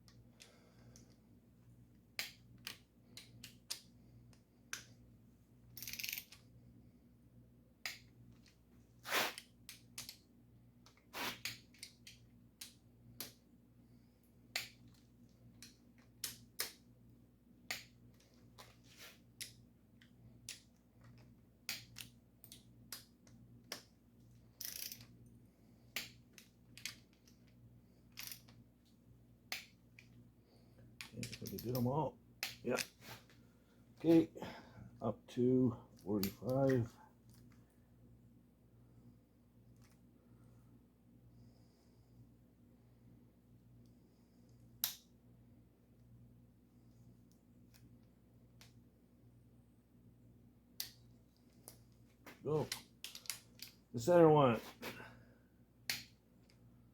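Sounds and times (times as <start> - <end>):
faint low hum: 0.0 - 56.9.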